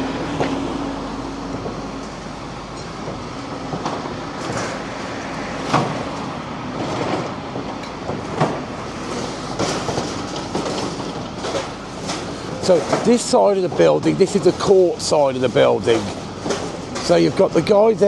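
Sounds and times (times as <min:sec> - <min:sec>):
excavator rumble: 0:00.0 - 0:18.0.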